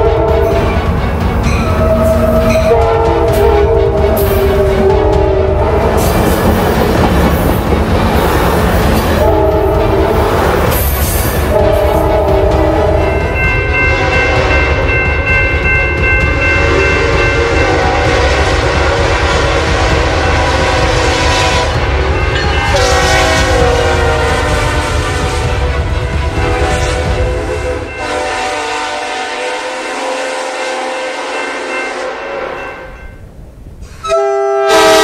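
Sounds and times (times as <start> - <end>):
train horn: 0.0 - 6.6, 8.9 - 15.4, 16.0 - 33.0, 34.0 - 35.0
moving train rumble: 0.0 - 35.0.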